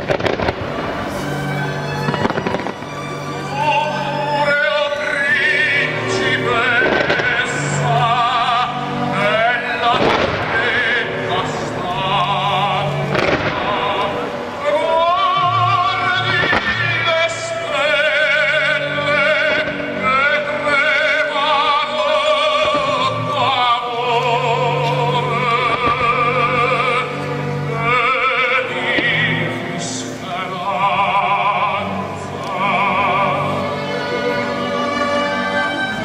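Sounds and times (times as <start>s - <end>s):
operatic singing: 0.0s - 36.0s
orchestral accompaniment: 0.0s - 36.0s.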